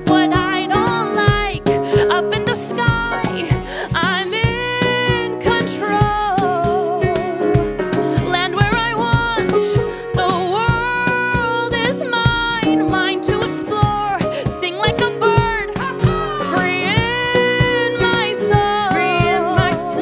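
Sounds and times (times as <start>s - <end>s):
acoustic guitar: 0.0s - 20.0s
woman singing with vibrato: 0.0s - 20.0s.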